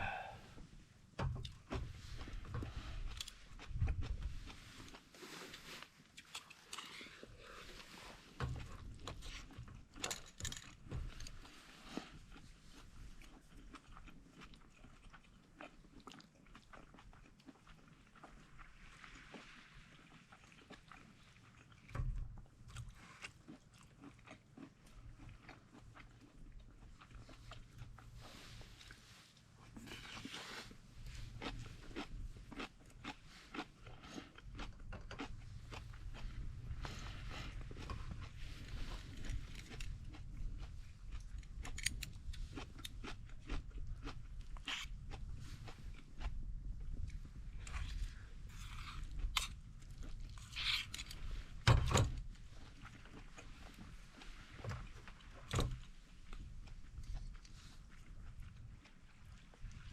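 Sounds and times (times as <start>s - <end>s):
person chewing and crunching: 0.0s - 0.5s, 1.4s - 51.6s, 52.2s - 59.9s.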